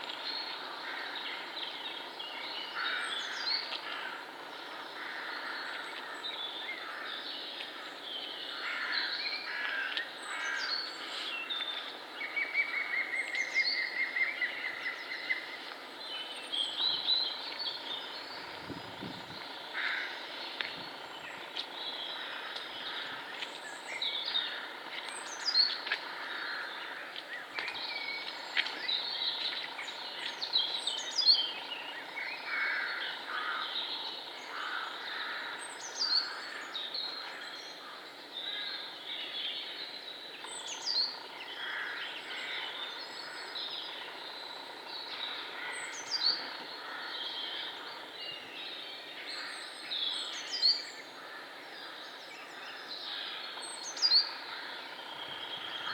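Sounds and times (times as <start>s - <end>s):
small birds singing: 0.0s - 55.9s.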